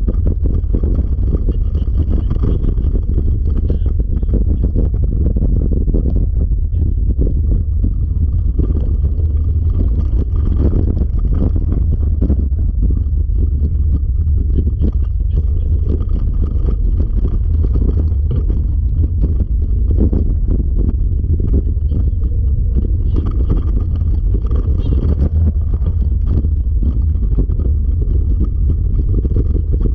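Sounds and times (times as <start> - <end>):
wheeled rig rolling over dirt: 0.0 - 29.9
wind buffeting microphone: 0.0 - 29.9.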